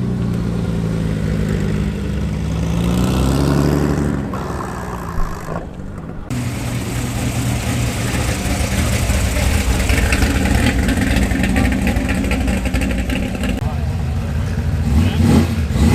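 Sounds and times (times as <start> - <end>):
car engine revving: 0.0 - 15.9
car engines running: 0.0 - 15.9.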